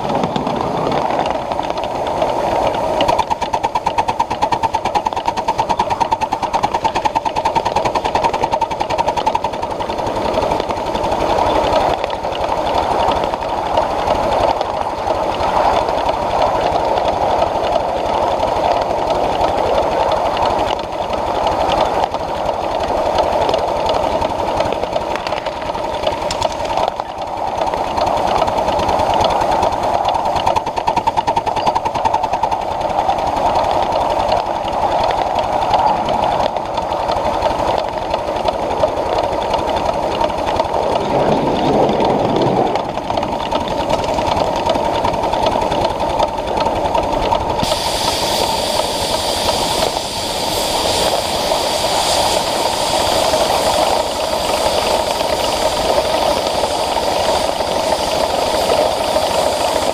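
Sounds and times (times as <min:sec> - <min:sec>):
steam locomotive clattering on rails: 0:00.0 - 0:59.9.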